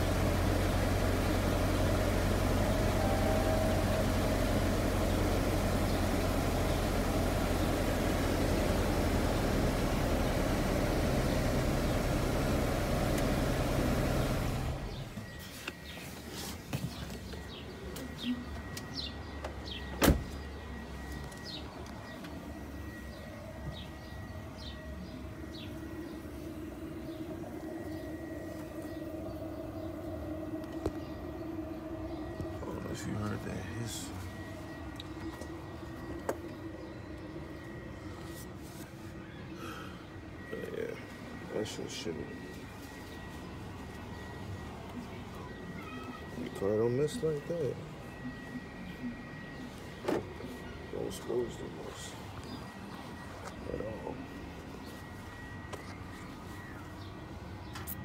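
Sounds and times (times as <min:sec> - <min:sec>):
engine idling with misfire: 0:00.0 - 0:58.0.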